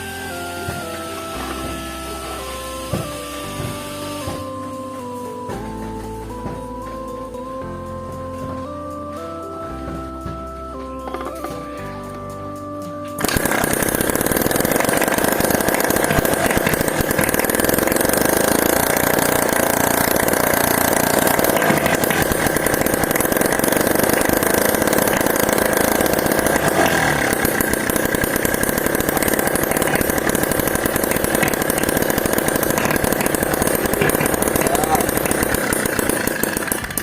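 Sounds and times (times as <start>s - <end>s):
two-stroke engine running: 0.0s - 6.9s, 13.2s - 37.0s.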